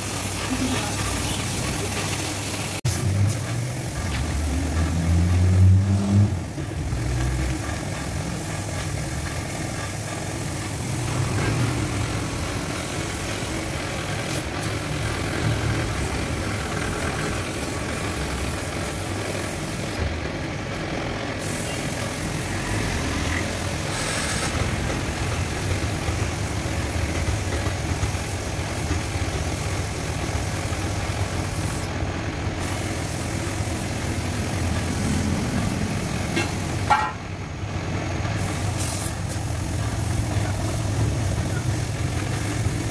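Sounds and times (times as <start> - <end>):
paint spray gun hissing: 0.0 - 4.4, 6.4 - 20.0, 21.4 - 37.0, 38.4 - 42.9.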